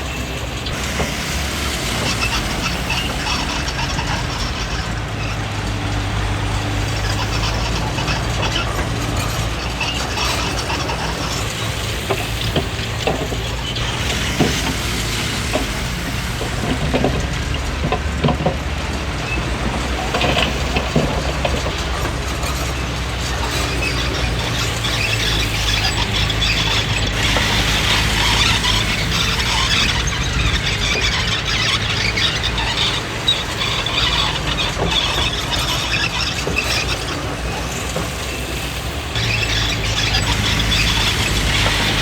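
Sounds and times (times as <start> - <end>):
bulldozer diesel engine running: 0.0 - 42.0
steel tracks squealing and clanking: 0.0 - 42.0.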